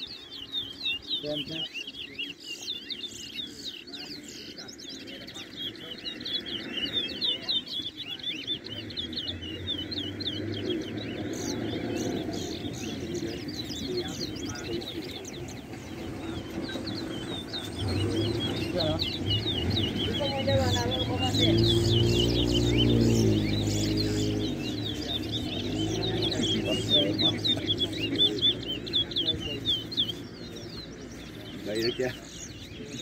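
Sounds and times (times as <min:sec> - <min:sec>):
finches chirping: 0:00.0 - 0:33.0.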